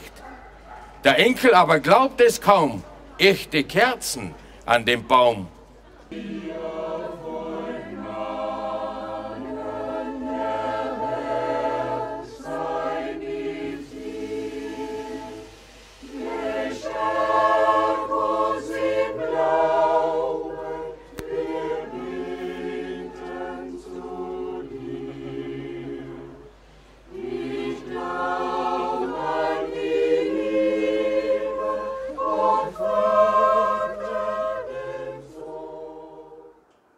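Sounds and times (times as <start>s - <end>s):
mixed choir singing: 6.1s - 36.9s.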